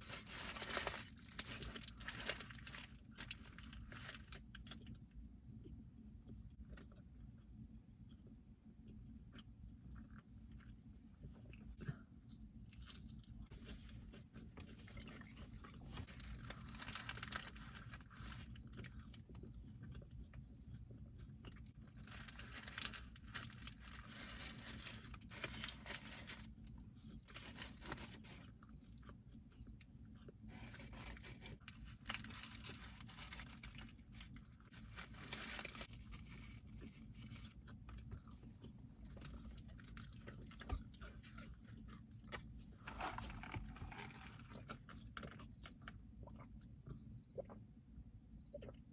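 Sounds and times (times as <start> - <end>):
chewing and crunching food: 0.0 - 48.9.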